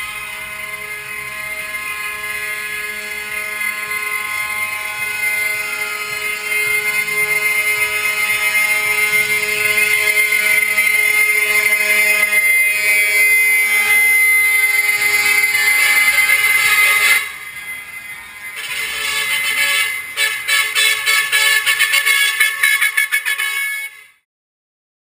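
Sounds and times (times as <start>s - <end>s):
truck air horns: 0.0s - 24.2s.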